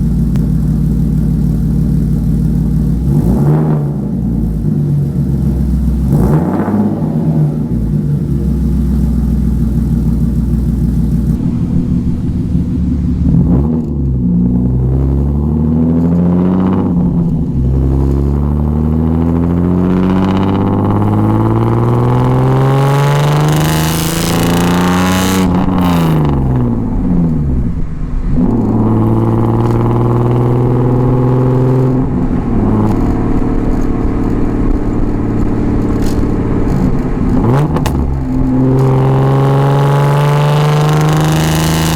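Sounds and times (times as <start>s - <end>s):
car engine revving loudly: 0.0s - 41.9s.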